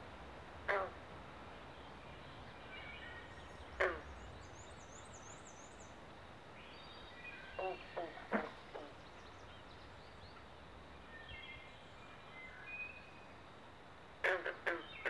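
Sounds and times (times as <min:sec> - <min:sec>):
faint birdsong: 0:00.0 - 0:15.0
frogs calling: 0:00.6 - 0:15.0.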